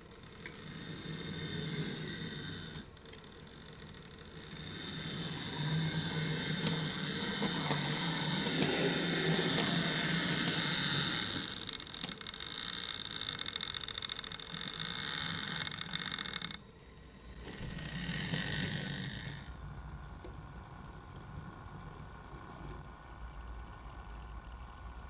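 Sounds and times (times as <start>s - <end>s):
model train motor whine: 0.0s - 25.0s
wheels clicking on rails: 0.0s - 25.0s.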